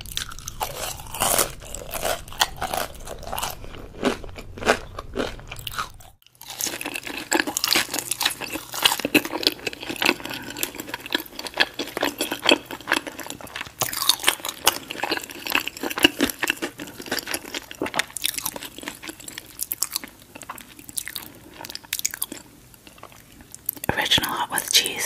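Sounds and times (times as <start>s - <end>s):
chewing crispy fried chicken: 0.0s - 23.9s.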